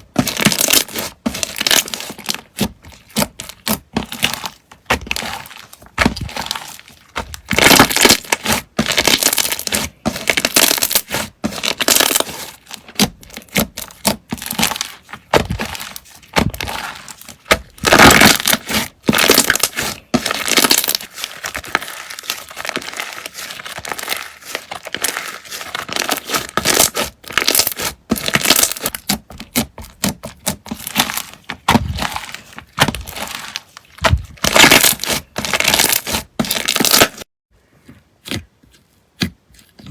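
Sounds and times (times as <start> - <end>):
slime crackling and crunching: 0.0 - 37.3.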